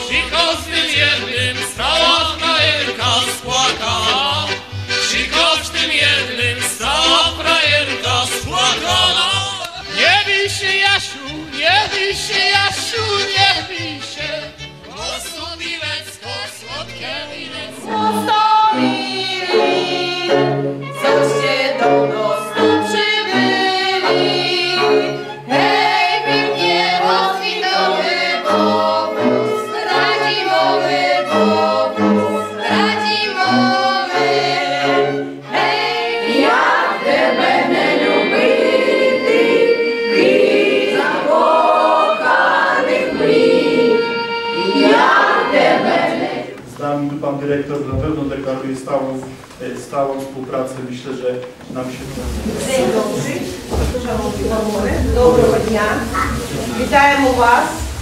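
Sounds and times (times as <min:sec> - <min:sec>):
group of voices singing: 0:00.0 - 0:46.8, 0:51.8 - 0:58.0
fiddles playing lively folk tune: 0:00.0 - 0:58.0.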